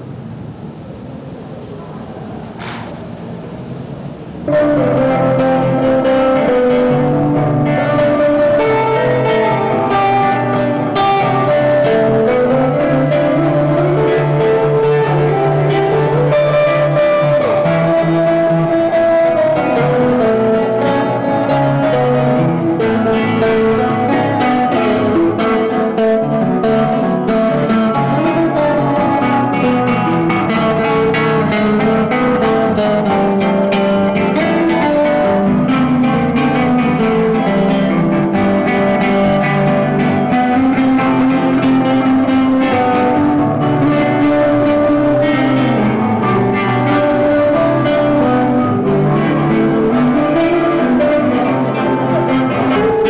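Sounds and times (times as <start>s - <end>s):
acoustic guitar music: 4.2s - 53.0s.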